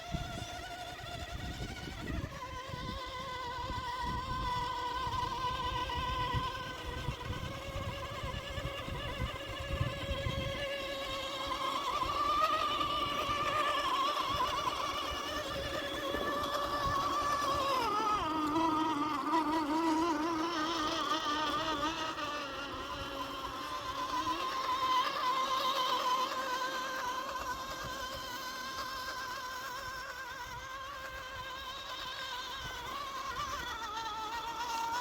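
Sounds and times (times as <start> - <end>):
toy truck electric motor whining: 0.0 - 35.0.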